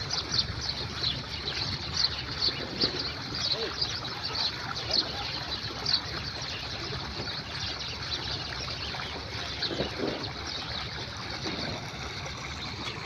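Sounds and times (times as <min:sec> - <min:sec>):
running water: 0:00.0 - 0:13.0
small birds chirping: 0:00.0 - 0:13.0.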